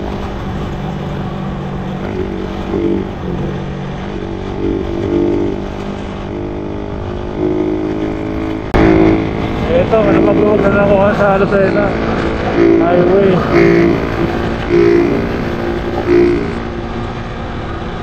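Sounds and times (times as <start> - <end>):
motorcycle engine running: 0.0 - 18.0
wind and road rush: 0.0 - 18.0.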